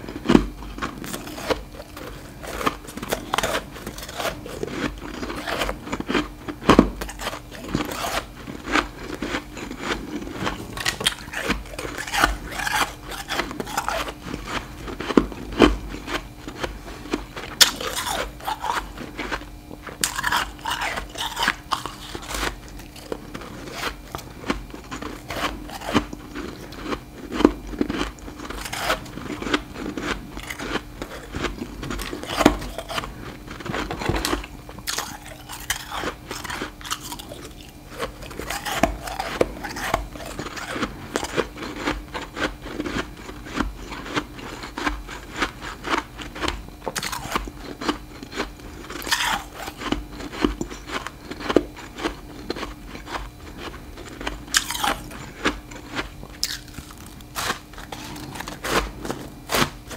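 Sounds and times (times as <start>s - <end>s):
frost crunching while chewed: 0.0s - 59.9s.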